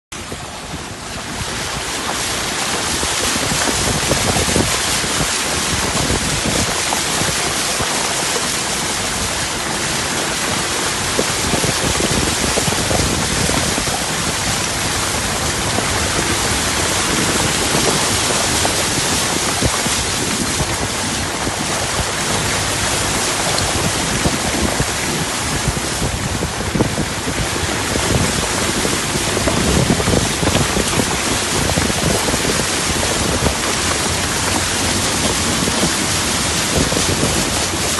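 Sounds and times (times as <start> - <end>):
water rushing with fine ticks: 0.2 - 37.9.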